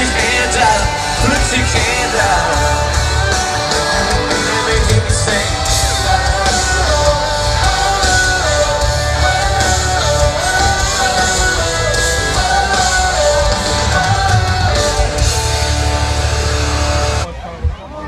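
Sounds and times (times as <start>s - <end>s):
heavy bass: 0.0s - 17.9s
guitar: 0.0s - 18.0s
live band music with singer: 0.0s - 18.0s.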